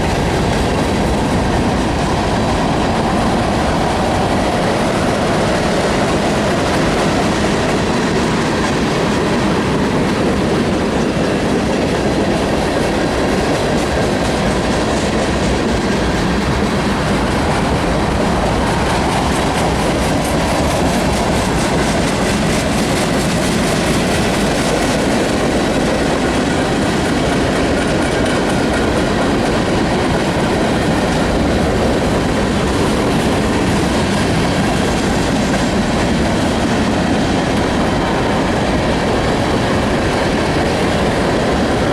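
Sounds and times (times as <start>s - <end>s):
freight train rumbling past: 0.0s - 41.9s.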